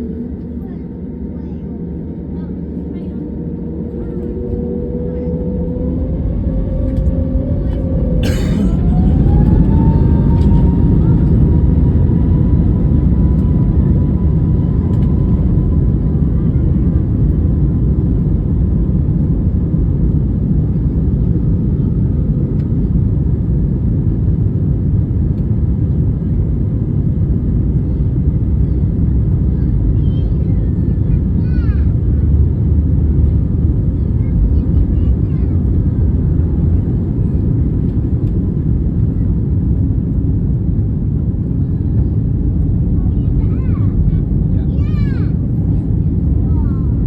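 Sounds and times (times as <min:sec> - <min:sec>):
jet engine whine: 0:00.0 - 0:47.0
rumble of engines and runway: 0:00.0 - 0:47.0.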